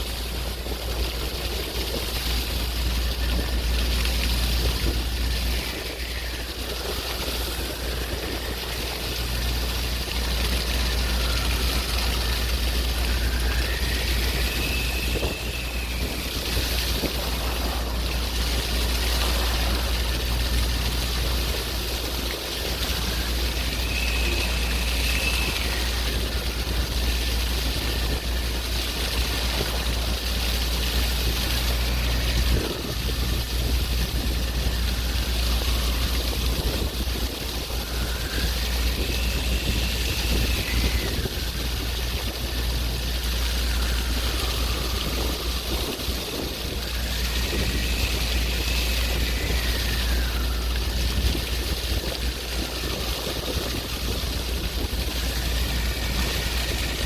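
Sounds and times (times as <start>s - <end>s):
deep rumble: 0.0s - 57.0s
faint high wavering tones: 0.0s - 57.0s
sea waves washing: 0.0s - 57.0s.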